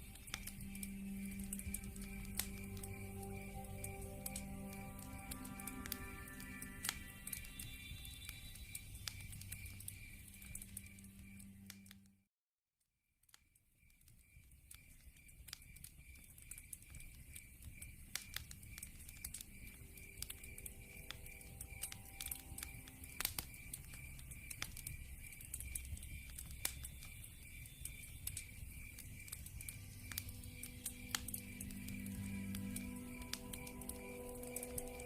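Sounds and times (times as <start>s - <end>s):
wood fire crackling and popping: 0.0s - 12.0s, 13.3s - 35.0s
cricket chirping: 0.0s - 12.1s, 13.3s - 35.0s.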